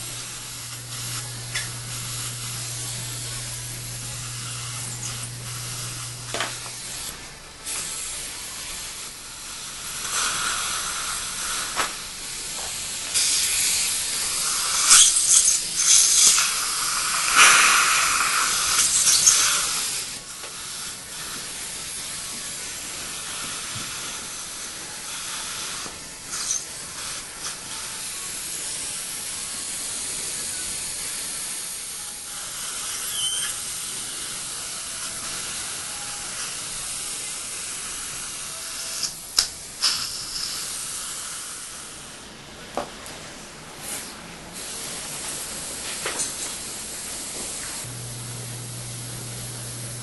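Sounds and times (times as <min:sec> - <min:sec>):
dental suction hissing: 0:00.0 - 0:42.2, 0:47.0 - 0:50.0.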